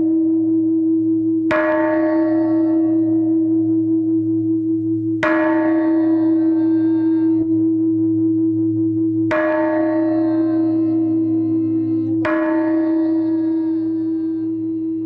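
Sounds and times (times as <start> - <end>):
large temple bell tolling: 0.0 - 15.0.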